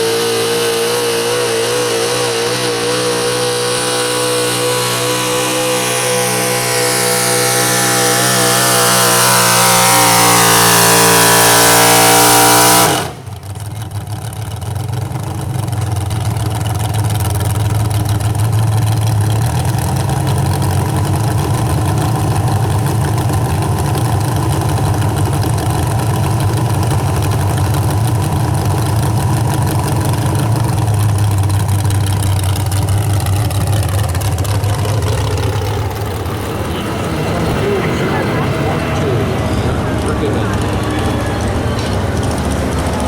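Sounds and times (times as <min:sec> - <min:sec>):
truck engine running loud: 0:00.0 - 0:43.0.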